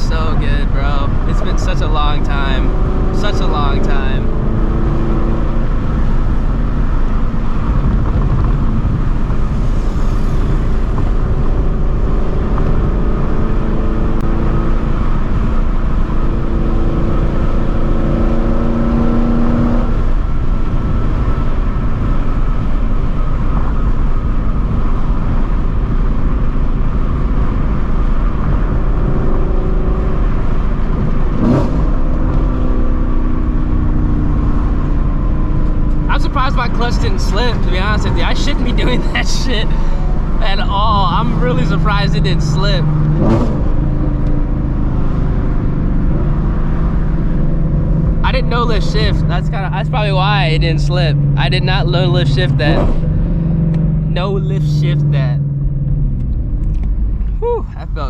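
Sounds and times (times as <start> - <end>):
car engine revving at high rpm: 0.0 - 58.0.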